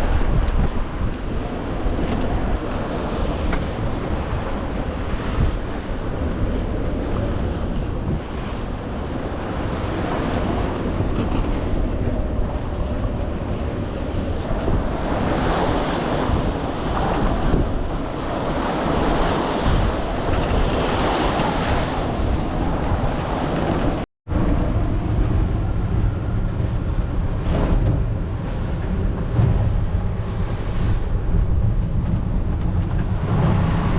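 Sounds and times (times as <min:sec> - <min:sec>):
waves and rushing water: 0:00.0 - 0:33.9
wind buffeting microphone: 0:00.0 - 0:33.9.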